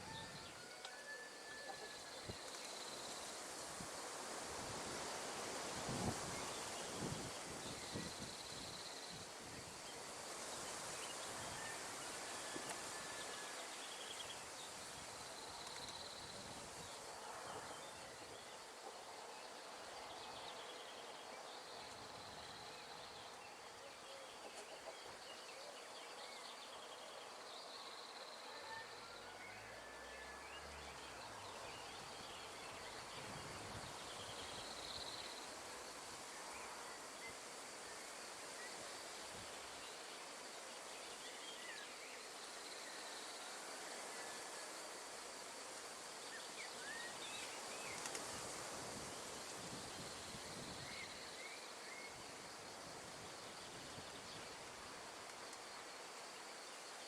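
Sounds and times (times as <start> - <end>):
wind rustling leaves: 0.0 - 24.4, 25.0 - 57.0.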